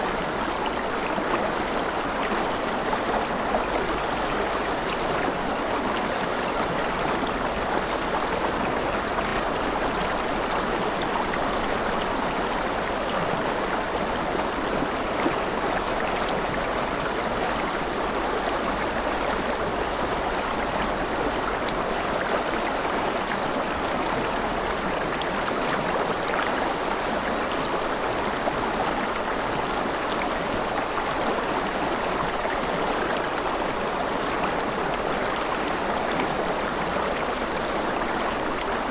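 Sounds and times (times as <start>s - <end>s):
river water flowing and splashing: 0.0s - 38.9s.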